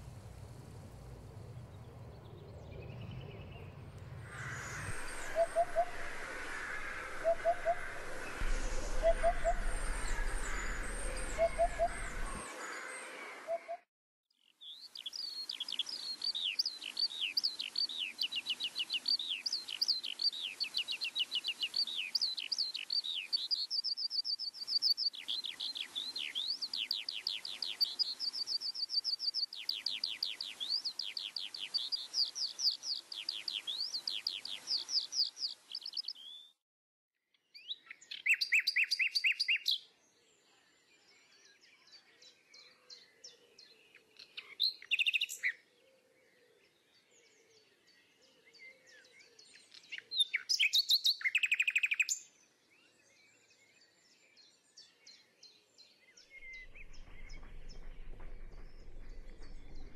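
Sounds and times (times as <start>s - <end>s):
songbirds chirping: 0.0s - 13.8s, 14.4s - 36.6s, 37.4s - 59.9s.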